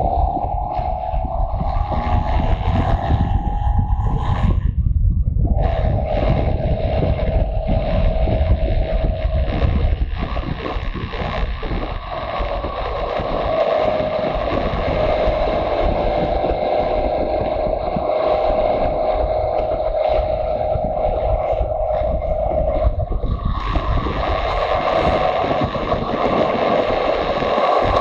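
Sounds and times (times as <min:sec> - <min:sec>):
motorcycle engine running: 0:00.0 - 0:28.0
wind rumble on microphone: 0:00.0 - 0:28.0.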